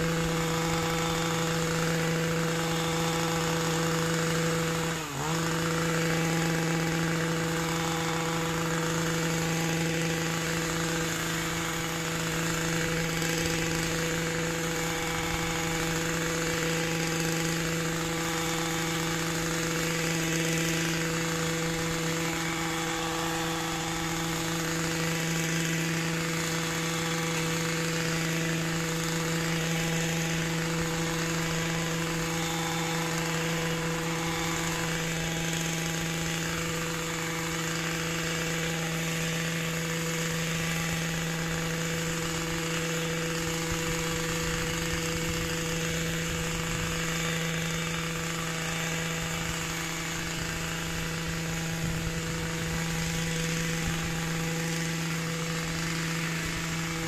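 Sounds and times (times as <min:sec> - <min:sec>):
small petrol engine revving: 0:00.0 - 0:57.0.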